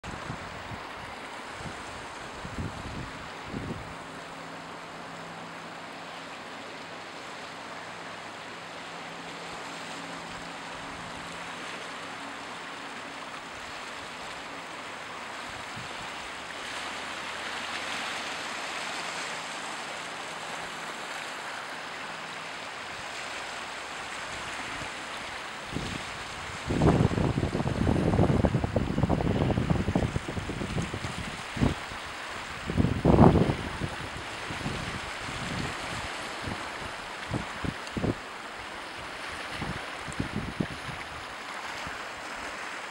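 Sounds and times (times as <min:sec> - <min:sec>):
waves washing on pebbles: 0:00.0 - 0:42.9.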